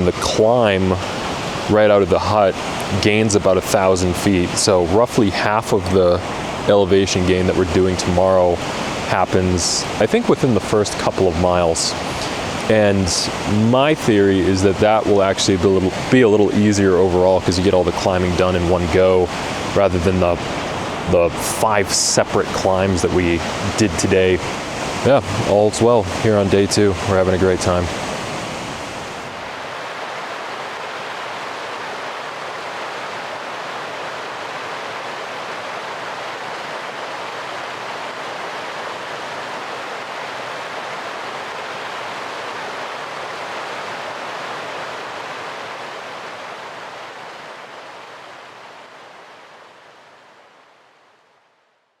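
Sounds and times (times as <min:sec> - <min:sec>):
river water rushing: 0:00.0 - 0:51.3.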